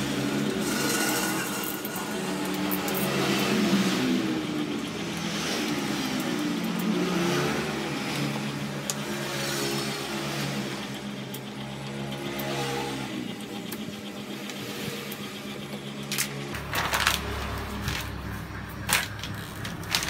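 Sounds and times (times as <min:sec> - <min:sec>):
engine running and revving: 0:00.0 - 0:20.0.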